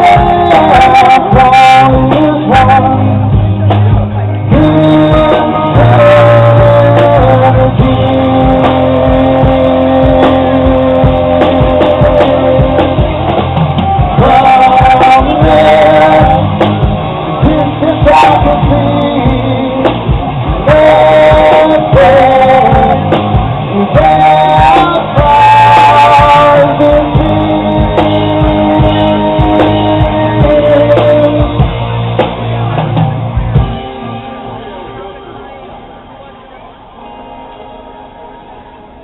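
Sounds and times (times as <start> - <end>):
person singing: 0.0 - 35.1
rock band playing: 0.0 - 39.0.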